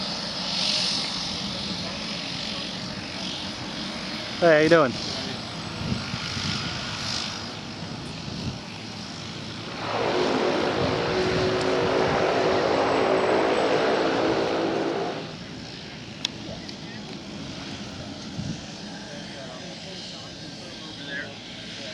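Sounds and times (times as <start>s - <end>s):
propeller airplane engine drone: 0.0s - 21.9s.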